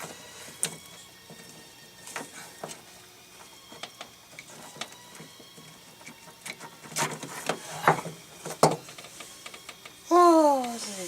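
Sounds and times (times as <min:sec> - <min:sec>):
small clicks and knocks of parts: 0:00.0 - 0:10.0.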